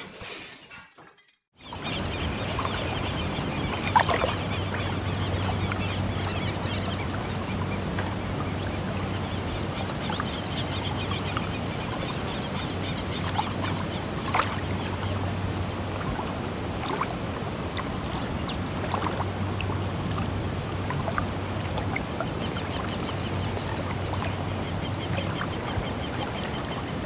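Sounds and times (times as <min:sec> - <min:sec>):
small waves lapping at shore: 0:01.6 - 0:27.0.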